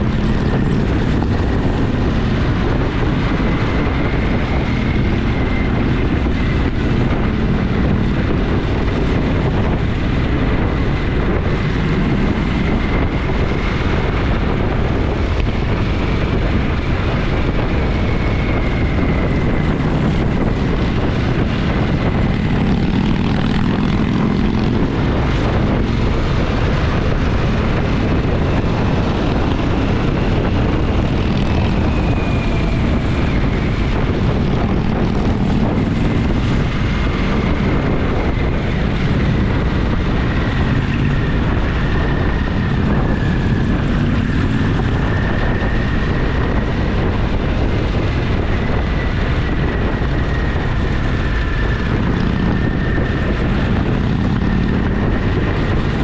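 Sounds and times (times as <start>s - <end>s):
motorcycle engine rumbling: 0.0s - 56.0s
wind rush on microphone: 0.0s - 56.0s.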